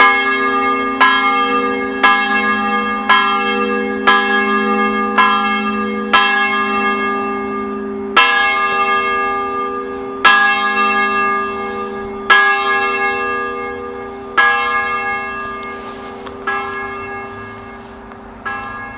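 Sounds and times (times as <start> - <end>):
church bells ringing: 0.0 - 18.9.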